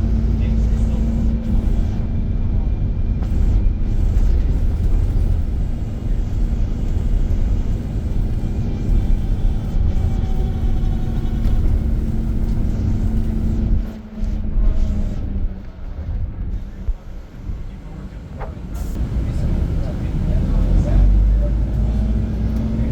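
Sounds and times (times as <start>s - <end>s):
bus engine running: 0.0s - 22.9s
road rumble: 0.0s - 22.9s.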